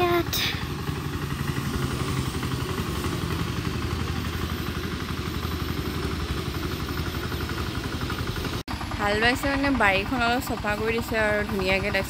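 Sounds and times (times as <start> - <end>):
power tiller engine running: 0.0 - 12.0.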